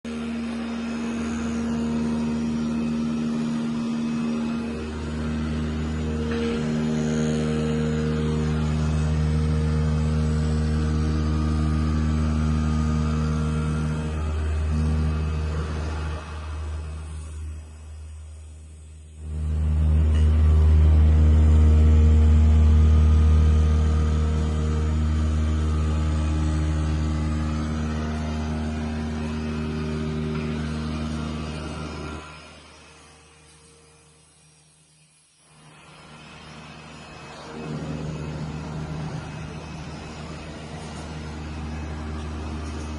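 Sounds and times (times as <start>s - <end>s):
electric motor hum: 0.0s - 42.9s.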